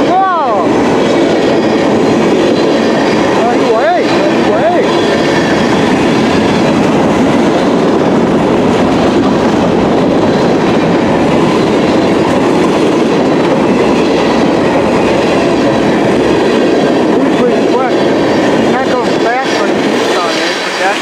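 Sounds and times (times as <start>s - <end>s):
freight train rumbling past: 0.0s - 21.0s
wheels clattering over rails: 0.0s - 21.0s.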